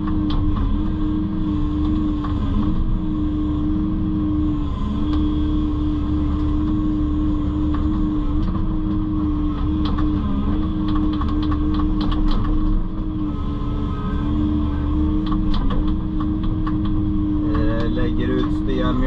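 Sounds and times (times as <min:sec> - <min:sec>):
earth-moving machine engine whine: 0:00.0 - 0:19.0.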